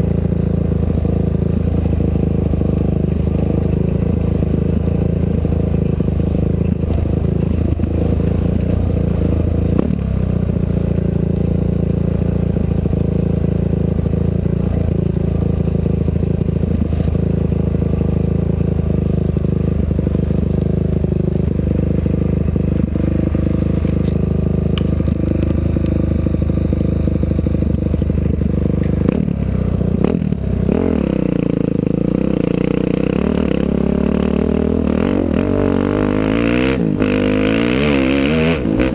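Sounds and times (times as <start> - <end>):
vehicle engine under load: 0.0 - 38.9.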